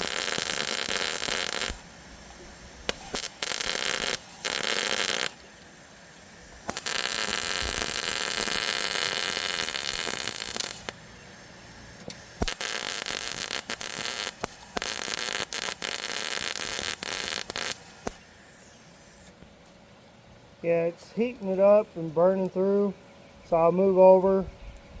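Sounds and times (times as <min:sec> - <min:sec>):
welder arc crackling: 0:00.0 - 0:19.5, 0:20.6 - 0:22.9.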